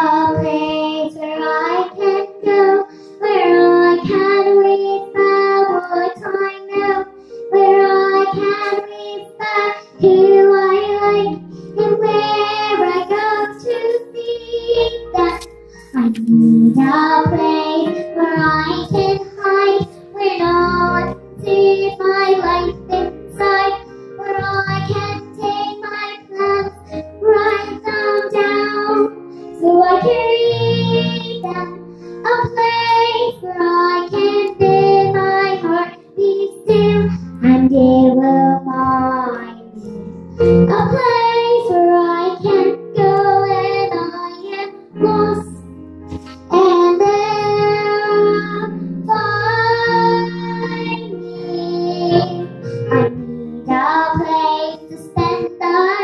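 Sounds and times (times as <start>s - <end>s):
girl singing into microphone: 0.0s - 56.0s.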